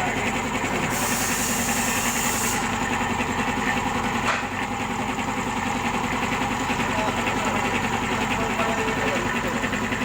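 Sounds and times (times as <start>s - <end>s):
air compressor motor humming: 0.0s - 10.0s.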